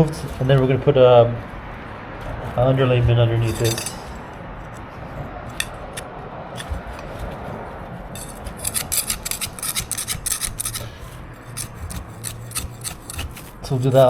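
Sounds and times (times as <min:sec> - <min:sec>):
scraper scraping concrete floor: 0:00.0 - 0:14.0.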